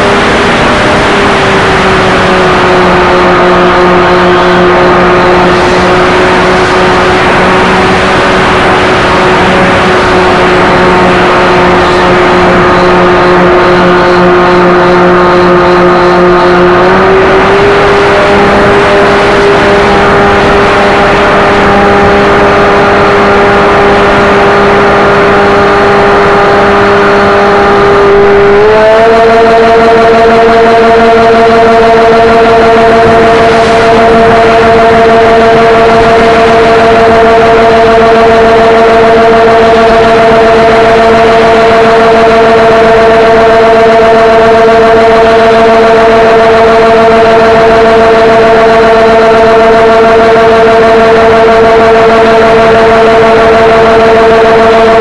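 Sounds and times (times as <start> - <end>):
model airplane motors droning: 0.0 - 55.0.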